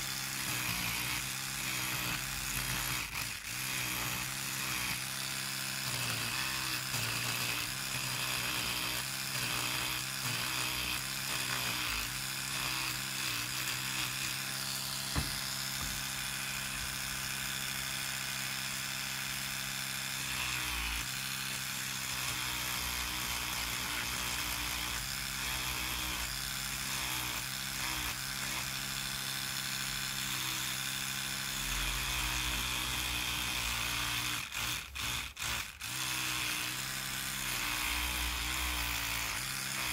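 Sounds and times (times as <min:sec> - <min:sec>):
electric toothbrush motor hum: 0:00.0 - 0:39.9.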